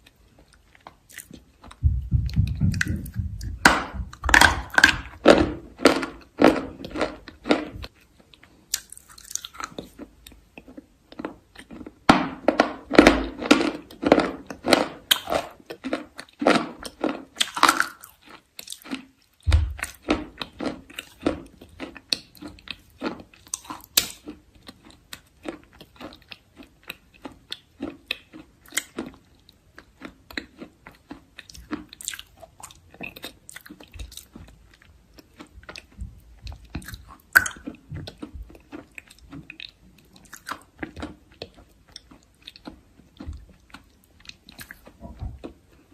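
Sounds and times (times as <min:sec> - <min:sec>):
person chewing crisp food: 0:00.0 - 0:45.9.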